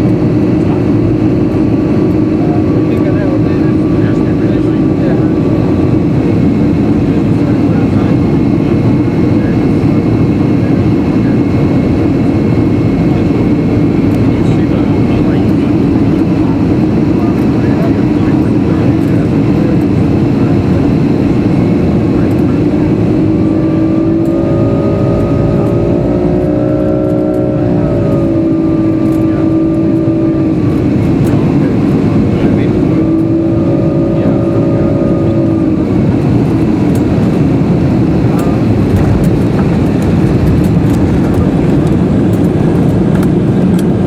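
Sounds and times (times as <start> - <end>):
airliner cabin engine rumble: 0.0 - 44.0.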